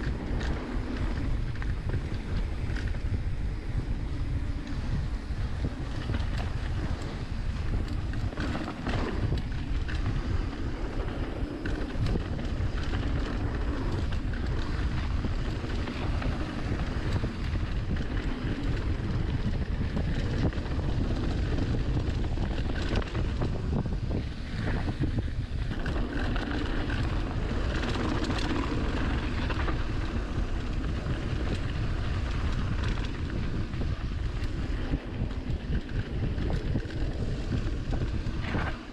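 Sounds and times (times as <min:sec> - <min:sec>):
mountain bike rumbling on dirt: 0:00.0 - 0:38.9
wind buffeting microphone: 0:00.0 - 0:38.9.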